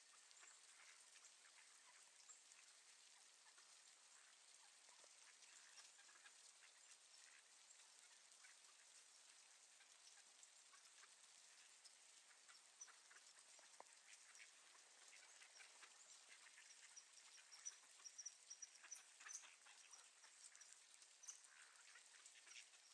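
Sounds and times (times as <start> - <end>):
light rain ticks: 0.0 - 22.9
ducks quacking softly: 0.1 - 22.9.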